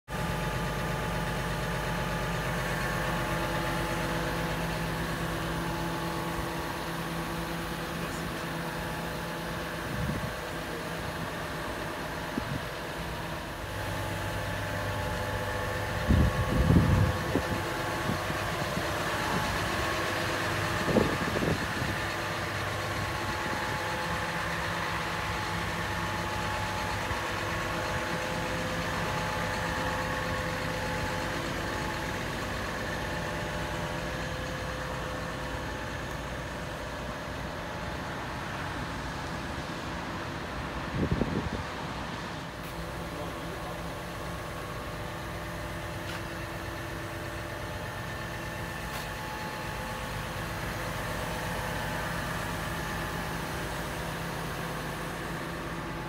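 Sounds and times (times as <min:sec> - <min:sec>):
excavator diesel engine idling: 0:00.1 - 0:56.0.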